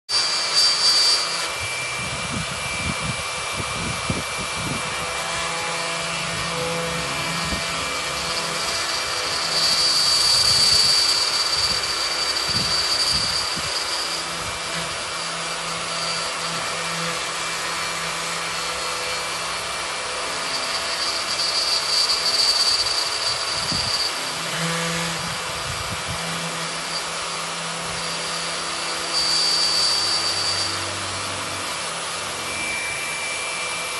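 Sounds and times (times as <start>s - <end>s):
router cutting wood: 0.1s - 33.9s.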